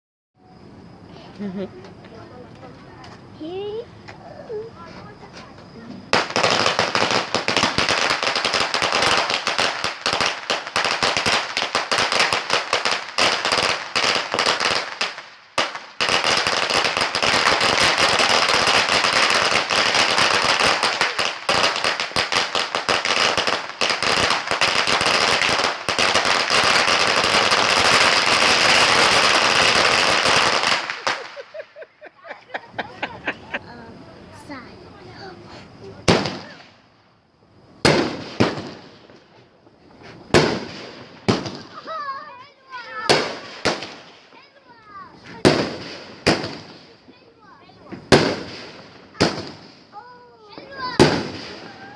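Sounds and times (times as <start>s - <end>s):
firecrackers popping rapidly: 4.2s - 51.9s.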